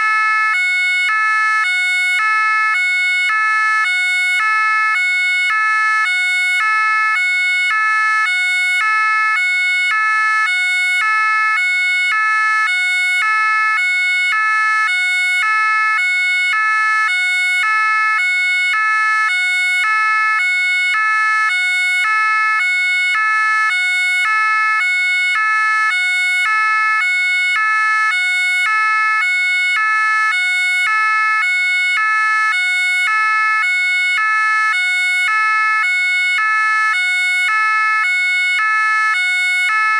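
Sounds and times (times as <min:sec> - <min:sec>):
two-tone siren: 0:00.0 - 0:39.9.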